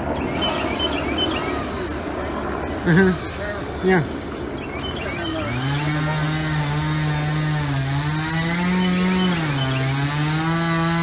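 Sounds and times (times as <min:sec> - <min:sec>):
chainsaw engine revving: 0:00.0 - 0:04.2, 0:04.9 - 0:11.0.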